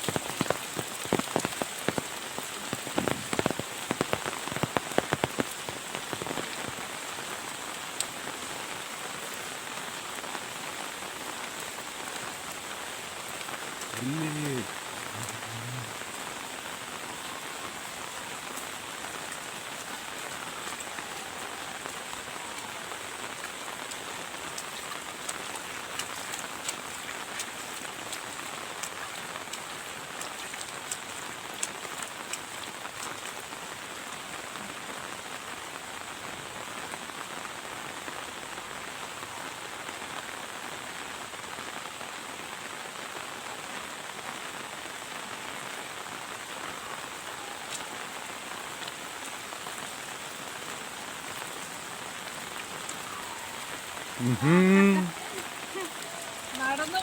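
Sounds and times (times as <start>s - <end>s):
heavy rain hiss: 0.0s - 30.2s, 30.8s - 57.0s.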